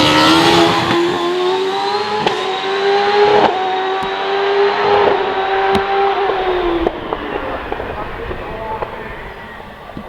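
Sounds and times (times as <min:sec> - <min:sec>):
racing car engine at high revs: 0:00.0 - 0:09.5.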